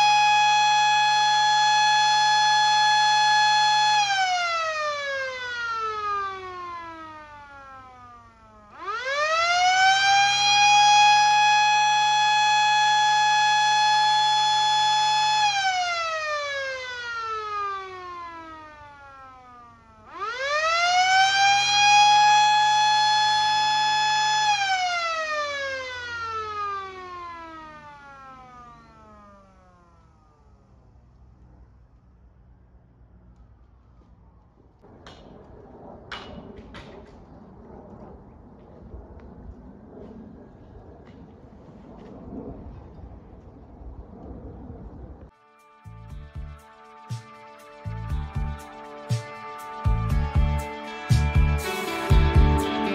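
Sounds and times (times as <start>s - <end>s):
fire siren wailing: 0.0s - 31.9s, 33.7s - 52.9s.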